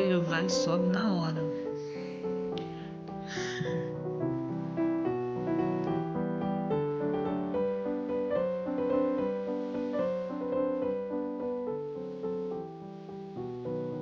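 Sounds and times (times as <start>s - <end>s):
gentle slow piano melody: 0.0s - 14.0s.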